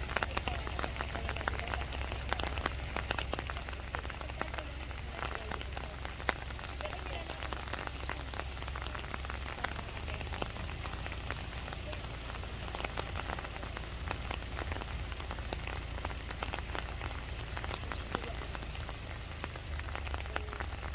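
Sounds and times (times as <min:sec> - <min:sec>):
low rumble: 0:00.0 - 0:20.9
rain drops hitting: 0:00.0 - 0:20.9
rain hiss: 0:00.0 - 0:20.9.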